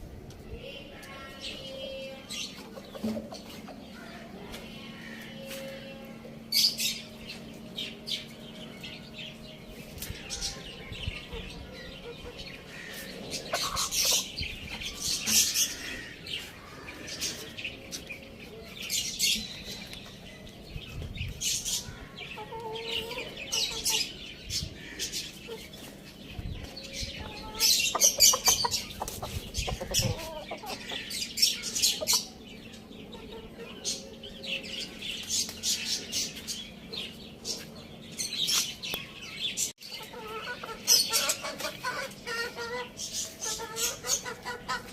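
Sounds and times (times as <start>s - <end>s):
chickens clucking: 1.1s - 44.9s.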